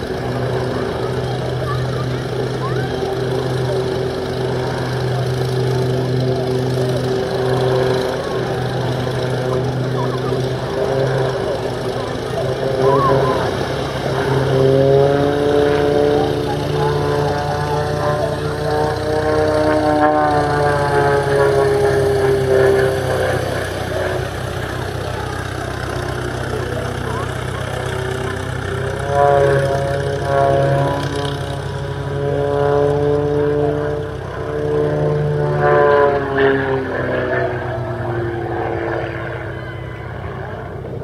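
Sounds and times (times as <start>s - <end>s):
propeller plane engine: 0.0s - 41.0s.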